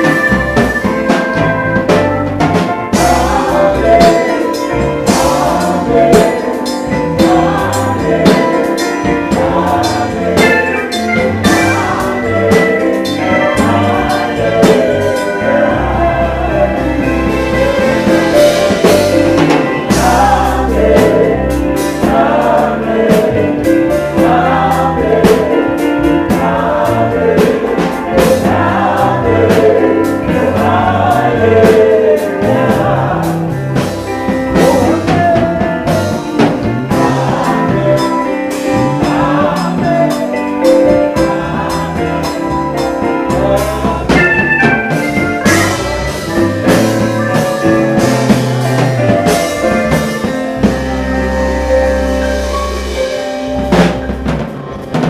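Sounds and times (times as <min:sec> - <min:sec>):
drum beat: 0:00.0 - 0:51.2
voices singing: 0:00.0 - 0:54.3
bass line: 0:00.0 - 0:55.0
electronic keyboards playing: 0:00.0 - 0:55.0.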